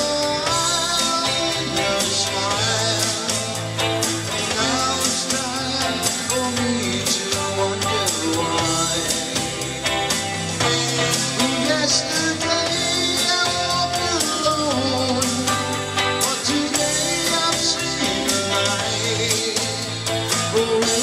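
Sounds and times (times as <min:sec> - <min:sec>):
drum kit: 0:00.0 - 0:21.0
electric bass: 0:00.0 - 0:21.0
electric guitar: 0:00.0 - 0:21.0
man singing: 0:00.0 - 0:21.0.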